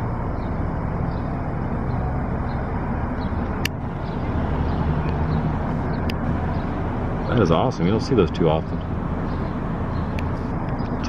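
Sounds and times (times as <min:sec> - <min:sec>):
low rumble of vehicle engines: 0:00.0 - 0:11.0.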